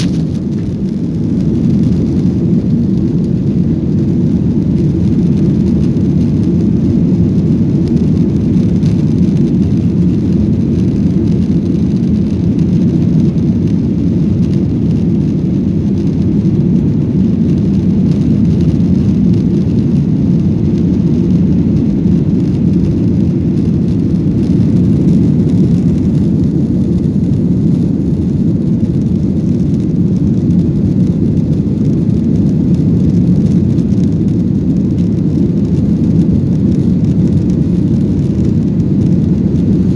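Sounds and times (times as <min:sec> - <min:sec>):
airliner engine rumble: 0:00.0 - 0:39.9.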